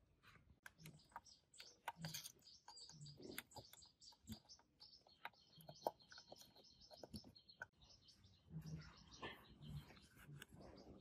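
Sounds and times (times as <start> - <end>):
small bird chirping: 0.2 - 11.0.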